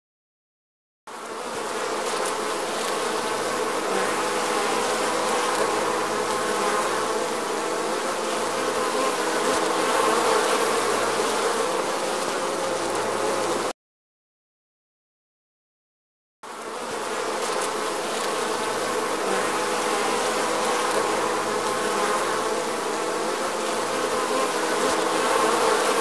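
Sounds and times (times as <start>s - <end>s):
honeybees buzzing: 1.1s - 13.8s, 16.5s - 26.0s.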